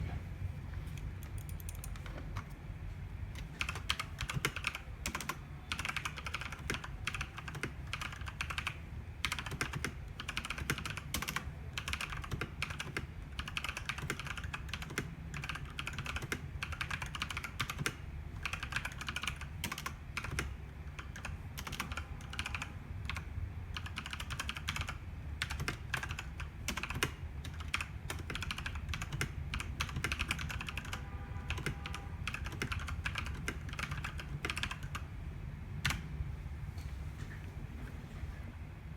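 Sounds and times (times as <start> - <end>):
mechanical keyboard typing: 1.0 - 2.6, 3.4 - 35.1.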